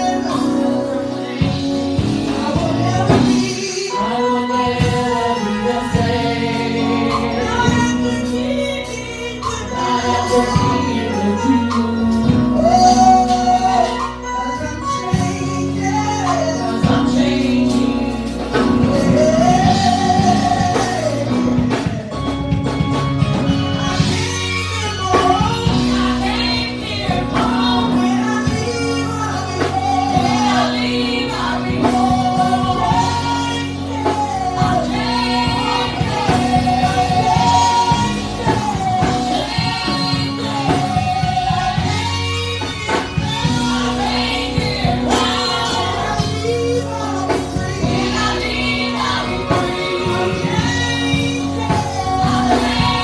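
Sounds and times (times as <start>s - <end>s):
band with bass and drums: 0.0s - 53.0s
voices singing gospel: 0.0s - 53.0s.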